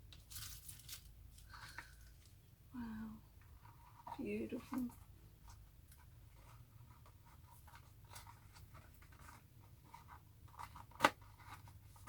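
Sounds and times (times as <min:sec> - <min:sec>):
scratchy handling noises: 0:00.0 - 0:02.4, 0:03.4 - 0:12.0.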